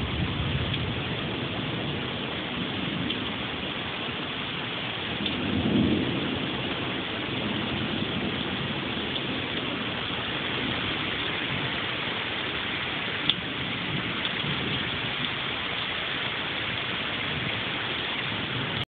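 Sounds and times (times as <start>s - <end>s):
low rumble of thunder: 0.0s - 18.8s
heavy rain pouring: 0.0s - 18.9s.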